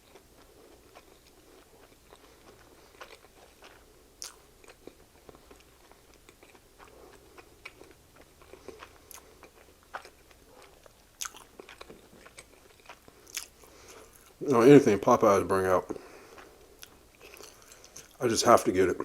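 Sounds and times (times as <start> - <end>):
person chewing: 0.0 - 14.4, 15.9 - 18.2.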